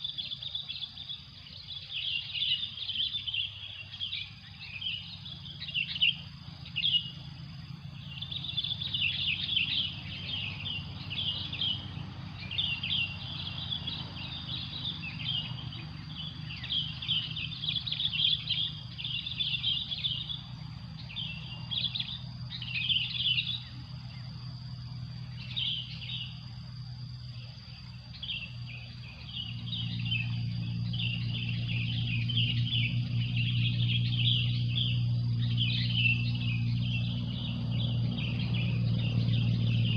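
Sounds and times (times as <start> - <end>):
faint high insect-like drone: 0.0 - 39.9
low hum: 0.0 - 39.9
small birds chirping: 0.0 - 39.9.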